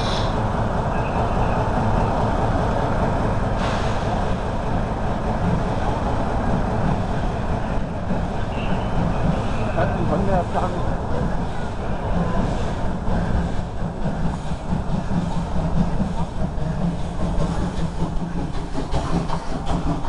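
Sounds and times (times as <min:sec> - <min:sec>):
railway turntable rumbling: 0:00.0 - 0:20.0.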